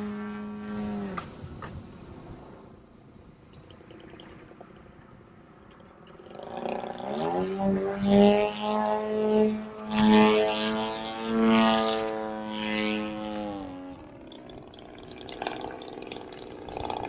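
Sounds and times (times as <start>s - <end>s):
model propeller plane flying: 0.0s - 17.0s.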